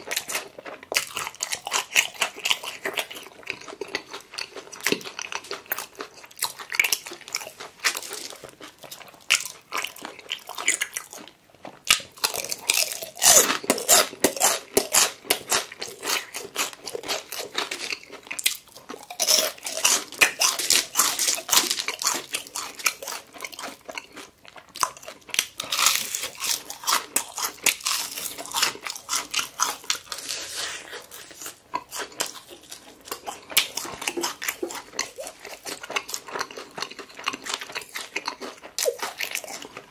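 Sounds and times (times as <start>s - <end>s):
crunchy chewing of fried chicken: 0.0s - 39.9s.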